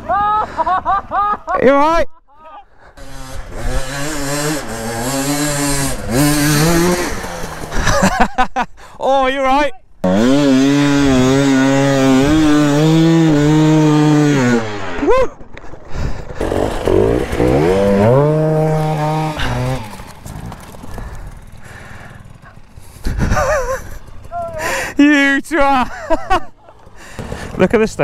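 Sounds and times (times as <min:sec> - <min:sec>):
dirt bike engine revving: 0:02.9 - 0:08.4, 0:10.0 - 0:28.0.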